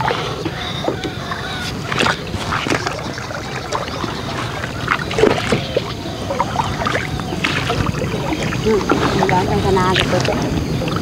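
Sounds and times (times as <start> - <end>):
paddles stroking through water: 0.0 - 11.0
sharp water splashes: 0.0 - 11.0
water trickling: 0.0 - 11.0.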